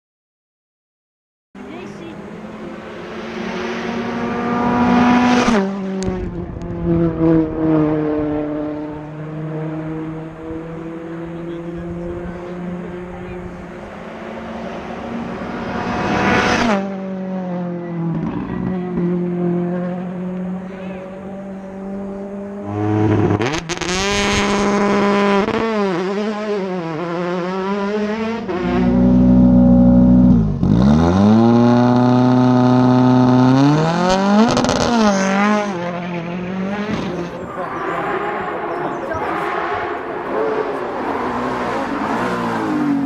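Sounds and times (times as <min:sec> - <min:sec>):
rally car engines revving: 0:01.6 - 0:43.0.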